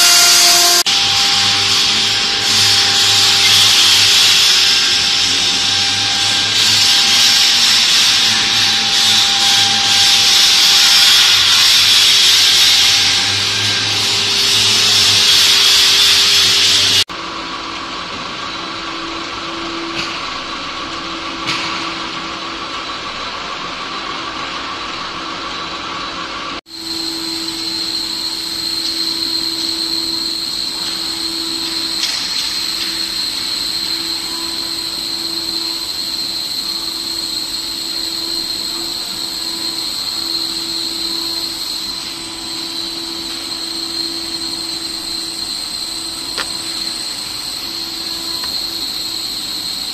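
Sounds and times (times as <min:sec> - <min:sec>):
cnc router whining: 0:00.0 - 0:21.6, 0:26.0 - 0:49.9.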